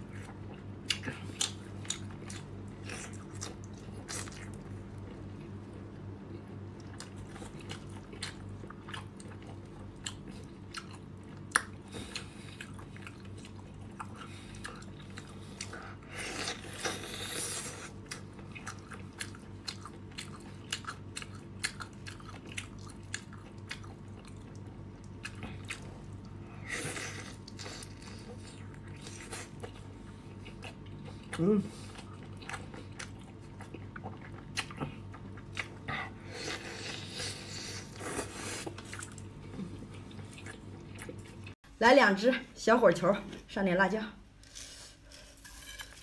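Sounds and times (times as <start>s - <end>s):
wet biting and chewing: 0.2s - 5.6s, 6.5s - 41.6s.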